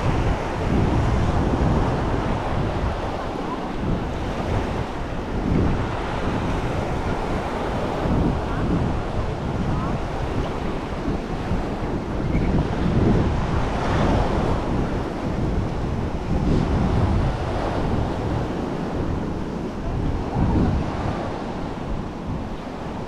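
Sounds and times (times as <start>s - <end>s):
surf washing onto shore: 0.0s - 23.0s
wind buffeting microphone: 0.0s - 23.0s.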